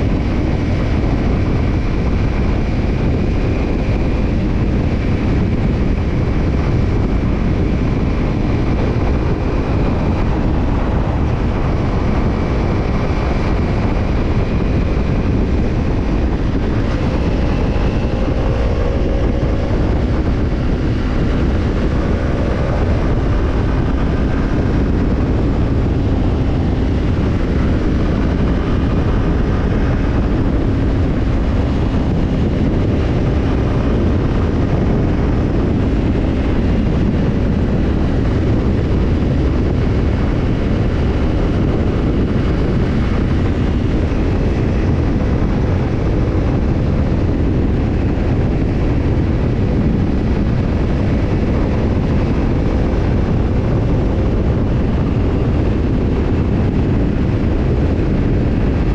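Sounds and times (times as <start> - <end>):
motorcycle engine running: 0.0 - 58.9
wind noise on microphone: 0.0 - 58.9.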